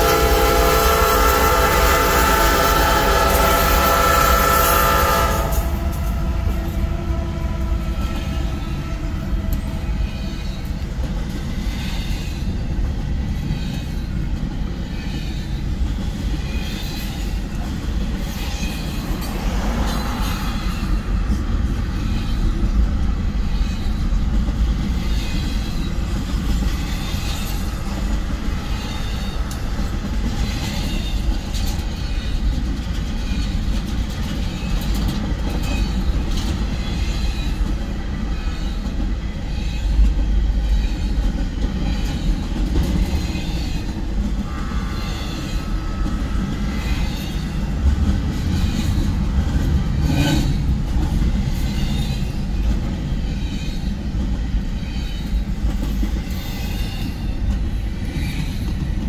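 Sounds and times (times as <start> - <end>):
freight train rumbling past: 0.0 - 59.0
train wheels clicking on rails: 0.0 - 59.0.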